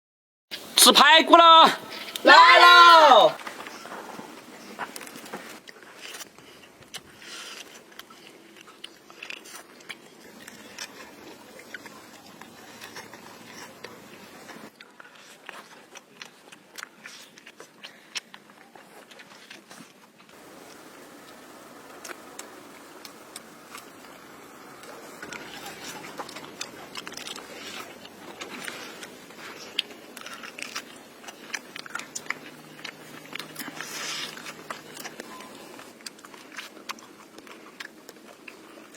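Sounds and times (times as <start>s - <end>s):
person chewing ribs: 4.6s - 38.9s.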